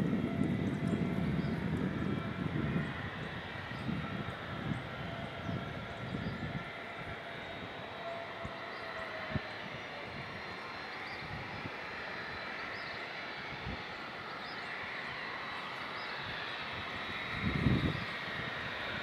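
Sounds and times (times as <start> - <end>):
jet engines rushing hum: 0.0 - 19.0.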